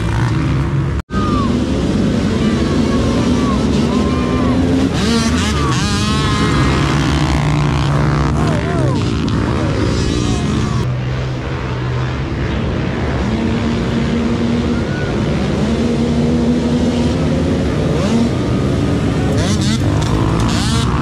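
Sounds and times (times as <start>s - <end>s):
mini quad engines running: 1.2s - 13.2s, 13.8s - 21.0s.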